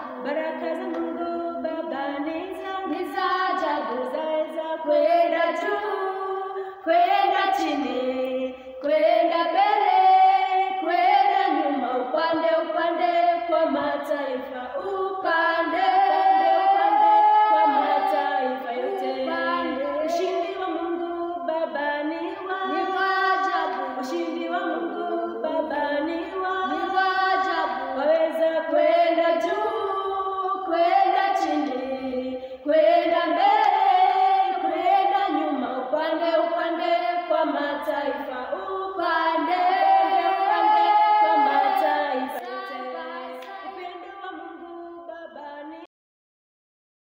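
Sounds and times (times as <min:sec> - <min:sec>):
voices singing gospel unaccompanied: 0:00.0 - 0:45.9.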